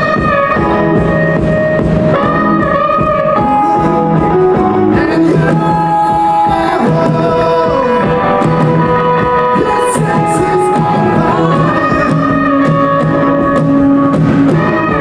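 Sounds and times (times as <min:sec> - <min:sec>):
song with sung melody: 0:00.0 - 0:15.0
steady beat: 0:00.0 - 0:15.0.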